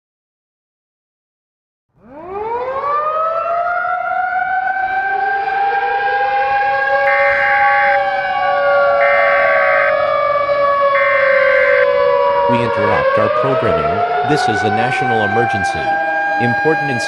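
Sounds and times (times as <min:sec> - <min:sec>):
civil defense siren wailing: 0:02.0 - 0:17.0.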